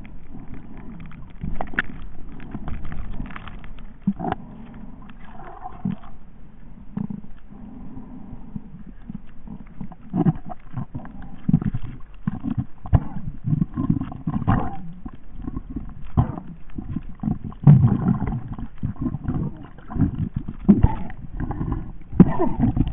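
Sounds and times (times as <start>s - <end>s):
muffled underwater rumbling: 0.0s - 22.9s.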